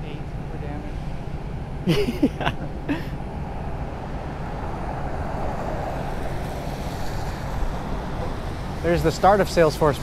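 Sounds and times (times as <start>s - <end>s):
traffic on wet pavement: 1.9s - 10.0s.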